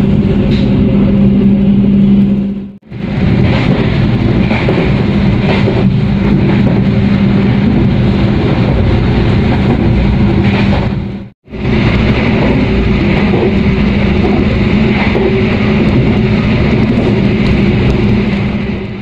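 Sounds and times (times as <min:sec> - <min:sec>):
train rumbling at speed: 0:00.0 - 0:19.0.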